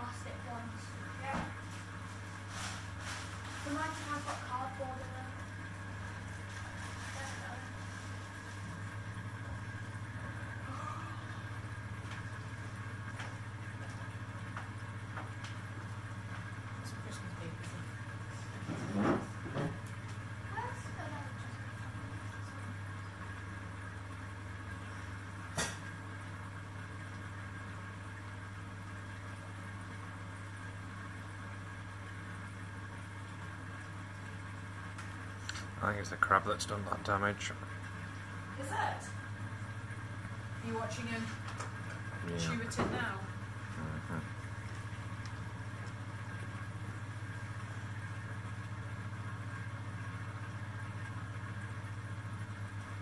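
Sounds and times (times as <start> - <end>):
aquarium pumps humming: 0.0 - 53.0.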